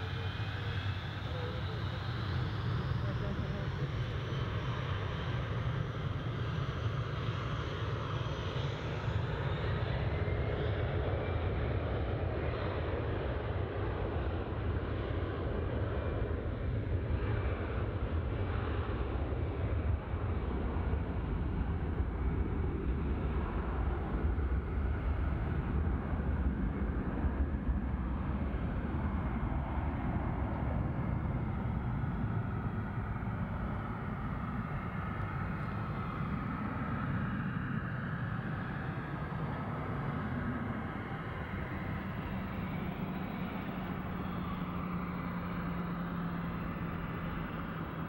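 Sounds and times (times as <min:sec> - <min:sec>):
faint engine whine: 0:00.0 - 0:48.0
jet engines at takeoff power: 0:00.0 - 0:48.0.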